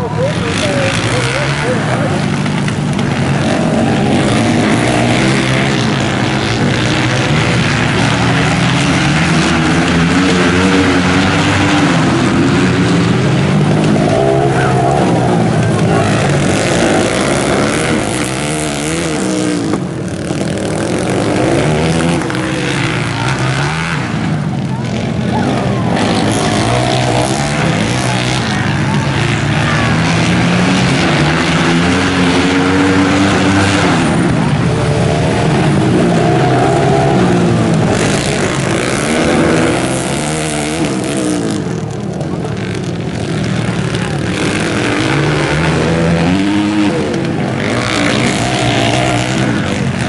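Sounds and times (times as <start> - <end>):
motorcycles at full throttle: 0.0 - 50.0.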